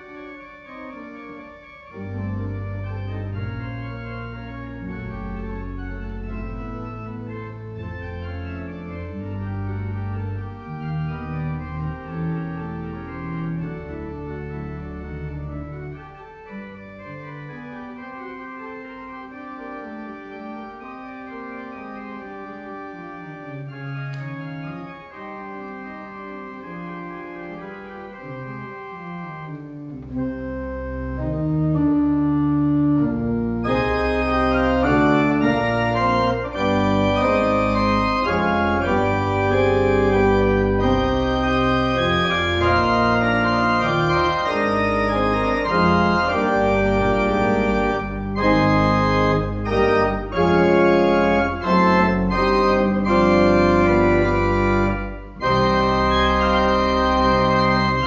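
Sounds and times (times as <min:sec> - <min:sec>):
deep organ pedal bass notes: 0:00.0 - 0:58.0
pipe organ chords: 0:00.0 - 0:58.0.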